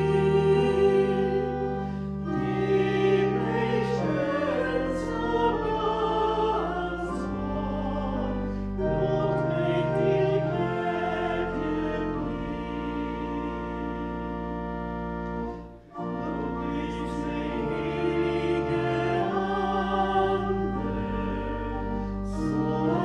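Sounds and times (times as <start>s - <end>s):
church organ chords: 0.0s - 23.0s
person singing a hymn: 0.0s - 23.0s.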